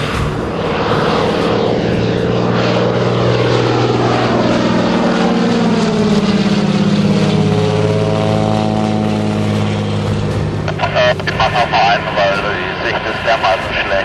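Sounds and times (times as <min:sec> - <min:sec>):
floatplane engine flying overhead: 0:00.0 - 0:14.0.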